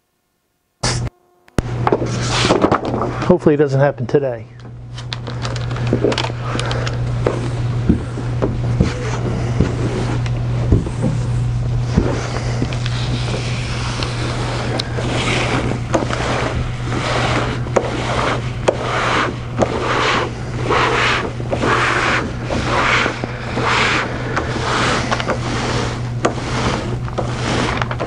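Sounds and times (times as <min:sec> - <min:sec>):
steady low hum: 0:00.2 - 0:28.0
papery rustling: 0:01.9 - 0:03.4, 0:05.0 - 0:10.2, 0:10.9 - 0:28.0.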